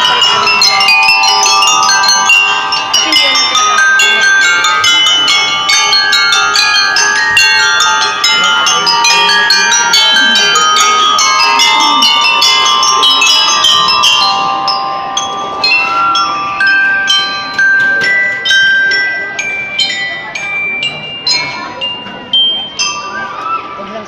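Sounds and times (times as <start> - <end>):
mallet instruments playing fast notes: 0.0 - 24.0.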